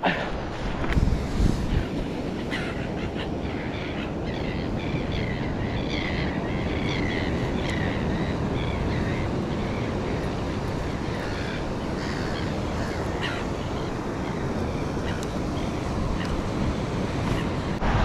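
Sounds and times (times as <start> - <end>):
surf rushing: 0.0 - 4.6, 6.0 - 18.0
wind on microphone: 0.4 - 3.5, 4.1 - 18.0.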